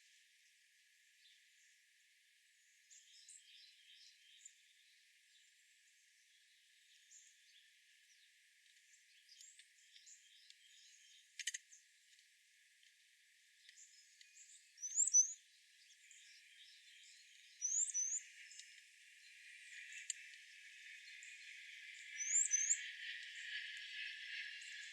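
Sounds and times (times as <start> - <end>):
songbirds chirping: 0.0 - 24.9.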